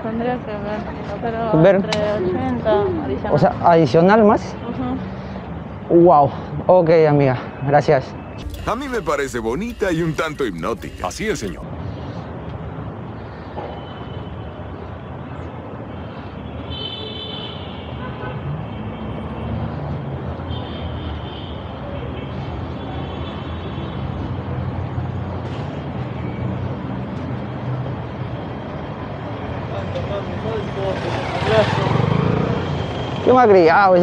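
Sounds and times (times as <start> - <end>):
road traffic: 0.0 - 7.0, 8.1 - 34.0.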